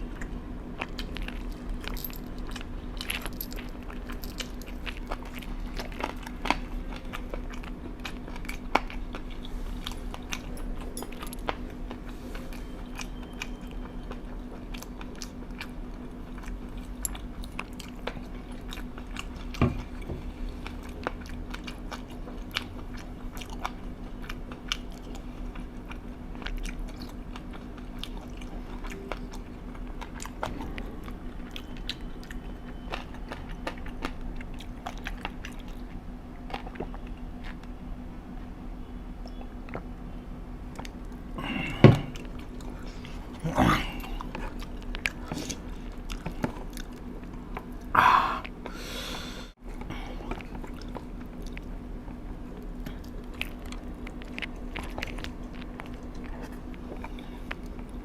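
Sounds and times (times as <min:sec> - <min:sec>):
crunchy food being chewed: 0:00.0 - 0:48.7, 0:49.6 - 0:58.0
steady low hum: 0:00.0 - 0:58.0.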